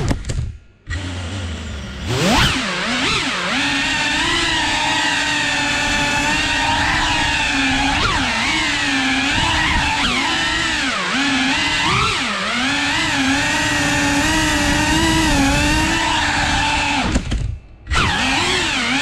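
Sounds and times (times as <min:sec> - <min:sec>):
drone motors whining: 0:00.8 - 0:19.0.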